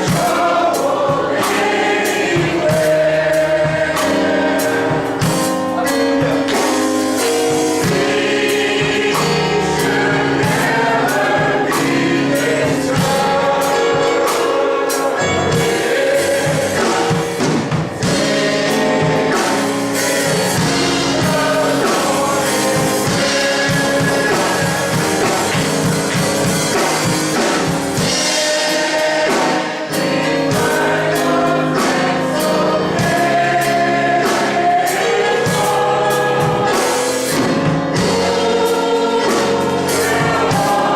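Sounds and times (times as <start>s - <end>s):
drums keeping the beat: 0.0s - 40.9s
gospel choir singing with band: 0.0s - 40.9s.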